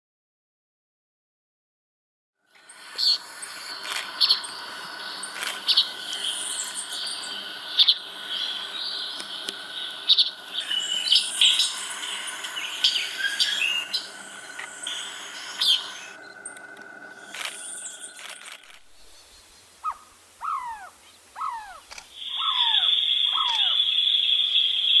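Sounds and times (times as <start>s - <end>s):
faint high hum: 2.4s - 25.0s
birds chirping: 2.6s - 25.0s.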